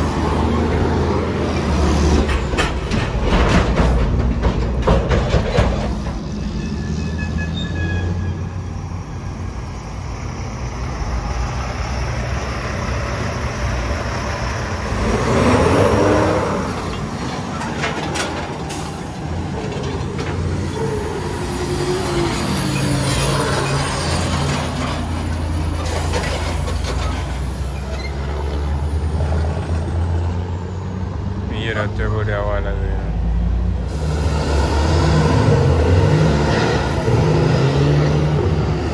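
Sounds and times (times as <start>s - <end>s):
diesel truck engine drone: 0.0s - 38.9s.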